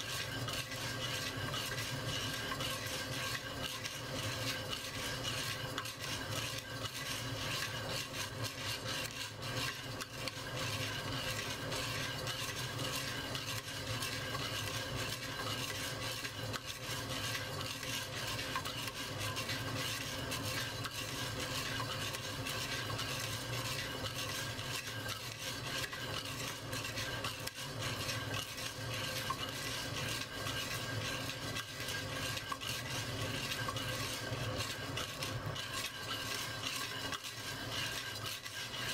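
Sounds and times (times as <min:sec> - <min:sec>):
coffee beans rattling in a pot: 0:00.0 - 0:38.9.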